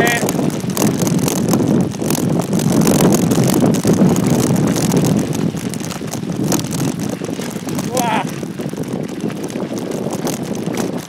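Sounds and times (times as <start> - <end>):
bicycle rattling and knocking: 0.0 - 11.0
tyres on loose gravel: 0.0 - 11.0
wind buffeting microphone: 0.0 - 11.0.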